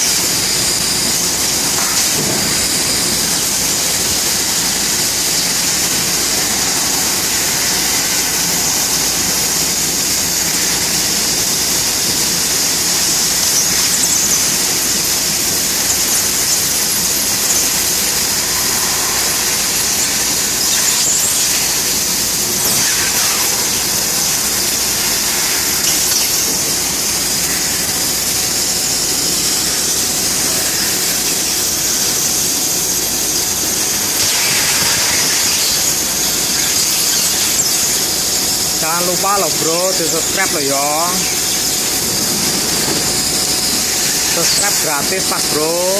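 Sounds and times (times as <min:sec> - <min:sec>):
laser cutting machine hissing: 0:00.0 - 0:45.9.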